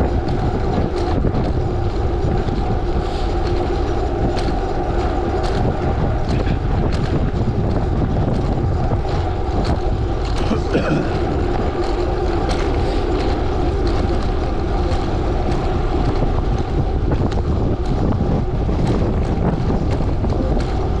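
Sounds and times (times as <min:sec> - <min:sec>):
bicycle tyres rolling on gravel: 0:00.0 - 0:21.0
wind on microphone: 0:00.0 - 0:21.0.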